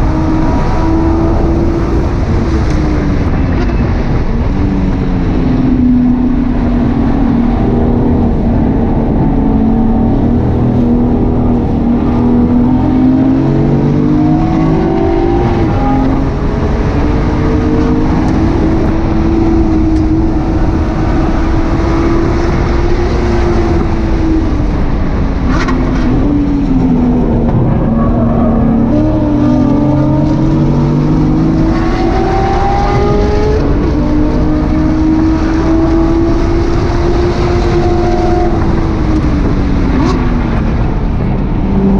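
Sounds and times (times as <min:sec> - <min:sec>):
car engine revving: 0:00.0 - 0:41.9
road and wind noise: 0:00.0 - 0:41.9.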